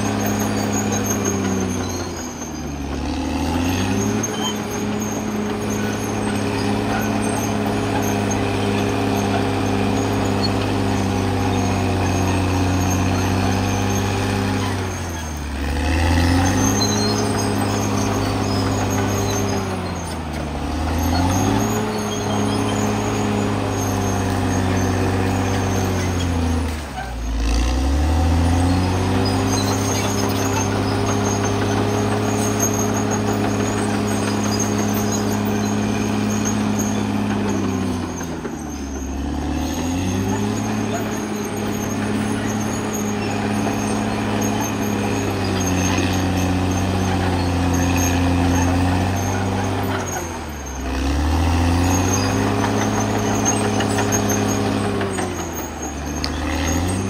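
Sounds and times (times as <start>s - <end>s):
bulldozer diesel engine revving: 0.0s - 57.0s.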